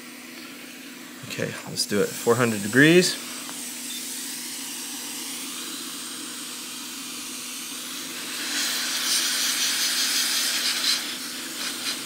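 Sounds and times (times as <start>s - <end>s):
hot-air station hissing: 0.0s - 12.0s.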